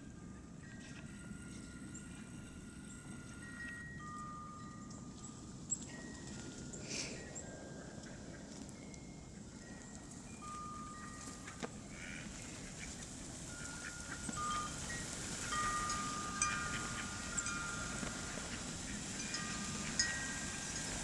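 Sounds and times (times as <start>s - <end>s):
chime-like ringing tones: 0.0s - 11.6s, 13.5s - 21.0s.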